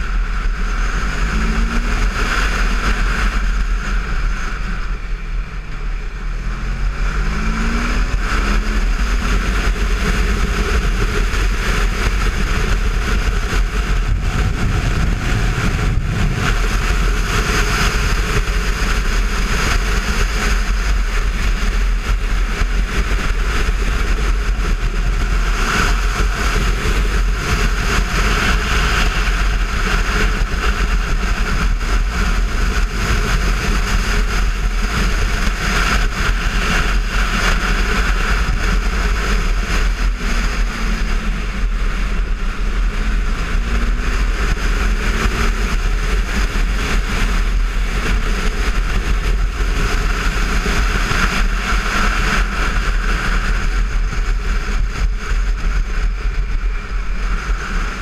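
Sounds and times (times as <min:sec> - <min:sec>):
motorcycle engine running: 0:00.0 - 0:58.0
wind rushing on microphone: 0:00.0 - 0:58.0.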